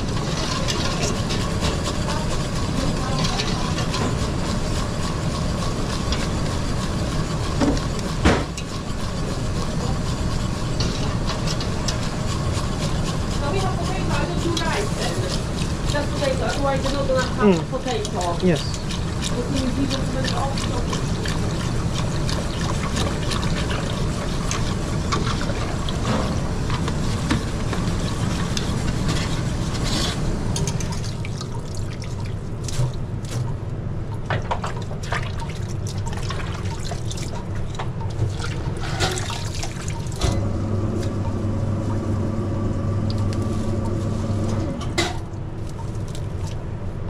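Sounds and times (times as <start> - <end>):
water running: 0.0 - 33.0, 34.6 - 42.1
steady low hum: 0.0 - 47.0.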